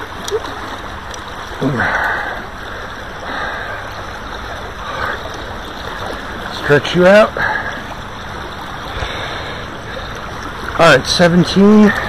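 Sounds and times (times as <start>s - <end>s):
river current rushing: 0.0s - 12.0s
water sloshing swells: 0.0s - 12.0s.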